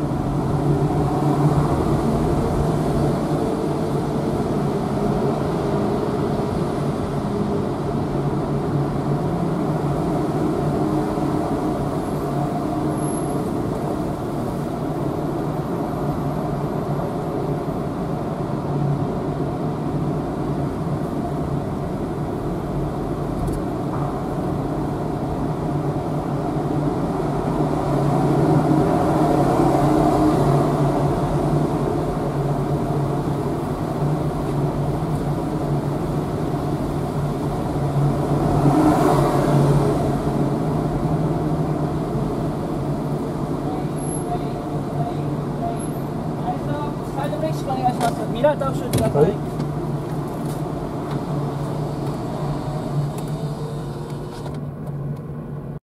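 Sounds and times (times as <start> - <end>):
car driving low drone: 0.0 - 55.8.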